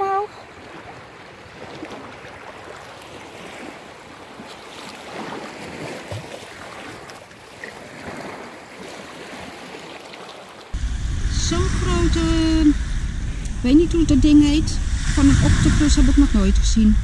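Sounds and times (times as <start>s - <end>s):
small sea waves washing in: 0.0s - 17.0s.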